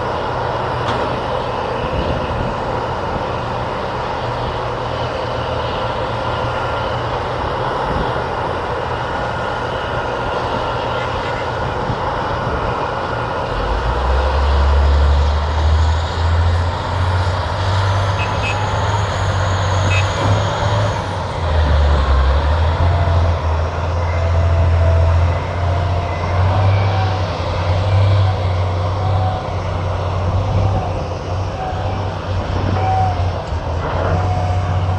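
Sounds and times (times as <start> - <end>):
heavy diesel engines rumbling: 0.0 - 34.9.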